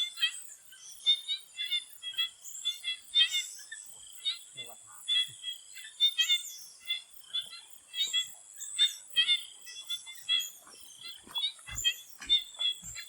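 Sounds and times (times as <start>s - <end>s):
frog chorus: 0.0s - 13.0s.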